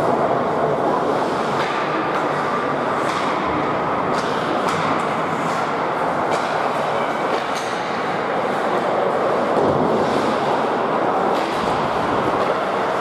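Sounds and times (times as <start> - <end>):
ice hockey game din: 0.0 - 13.0.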